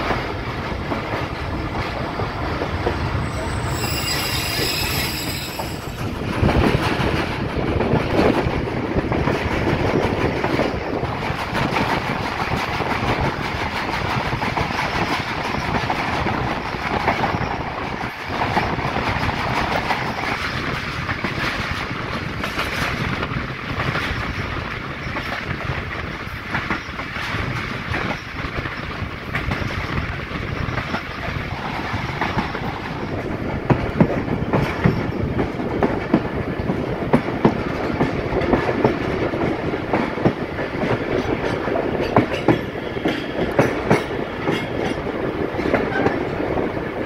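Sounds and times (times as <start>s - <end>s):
wheels clacking over rail joints: 0.0s - 46.4s
train rumbling: 0.0s - 47.0s.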